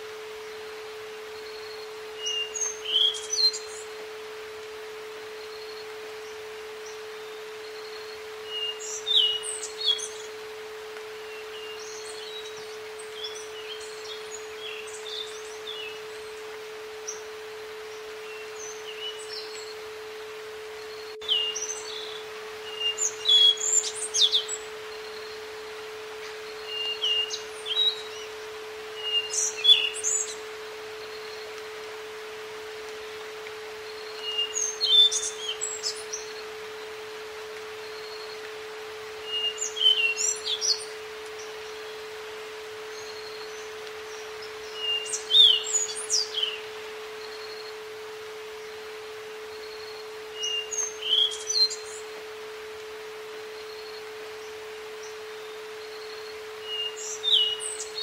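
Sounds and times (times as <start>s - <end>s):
faint steady hiss: 0.0s - 58.0s
steady pure tone: 0.0s - 58.0s.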